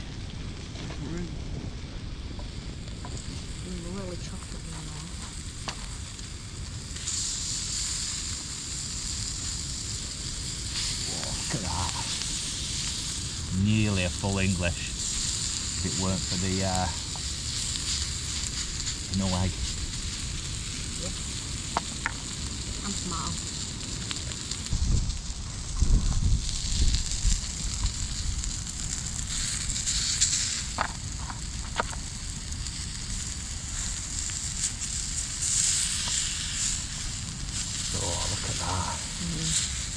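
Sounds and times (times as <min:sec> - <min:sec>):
food sizzling in a frying pan: 0:00.0 - 0:39.9
wood fire crackling: 0:00.0 - 0:39.9.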